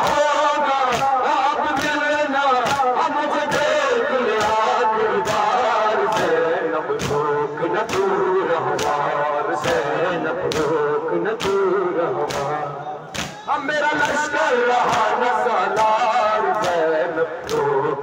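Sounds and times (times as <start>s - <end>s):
chest-beating slaps in unison: 0.0s - 17.8s
men chanting over microphones: 0.0s - 18.0s.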